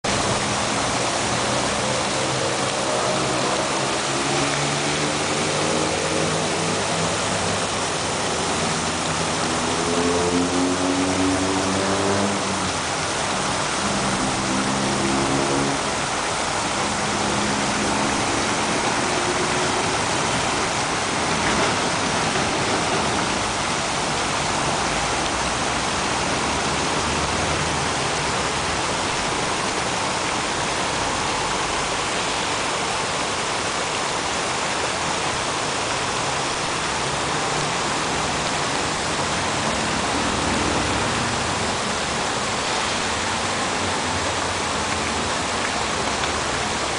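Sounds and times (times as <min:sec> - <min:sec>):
fountain water splashing: 0:00.0 - 0:46.9.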